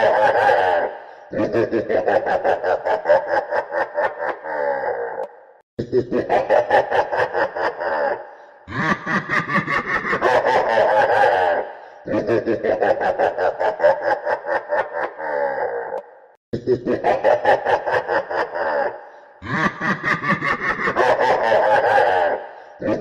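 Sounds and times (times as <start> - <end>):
evil laugh: 0.0 - 23.0.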